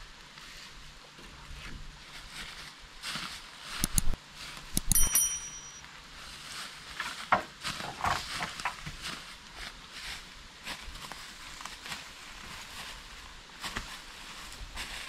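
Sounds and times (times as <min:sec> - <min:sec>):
pole dragging through dry leaves: 0:00.0 - 0:04.7, 0:06.0 - 0:15.0
footsteps: 0:01.2 - 0:15.0.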